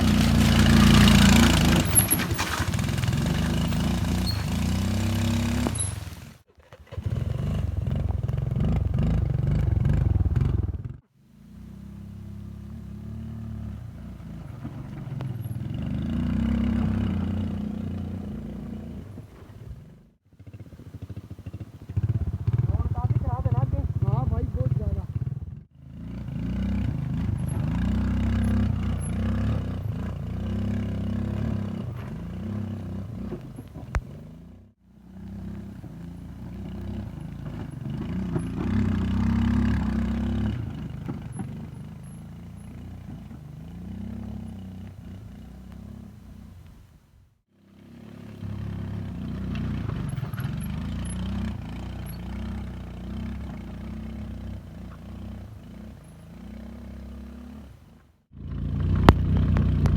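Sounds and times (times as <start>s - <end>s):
scooter engine running: 0.0s - 46.7s, 47.7s - 59.9s.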